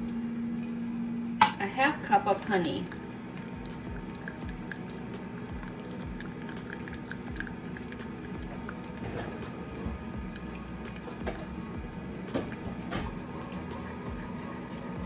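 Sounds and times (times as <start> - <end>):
air fryer humming: 0.0 - 15.0
butter and honey bubbling: 1.6 - 15.0.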